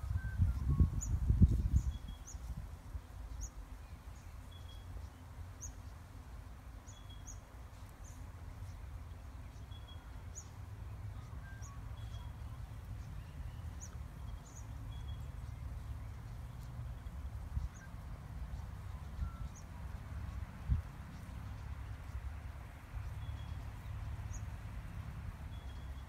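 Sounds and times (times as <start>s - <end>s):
low steady rumble: 0.0s - 26.0s
small birds chirping: 0.0s - 26.0s.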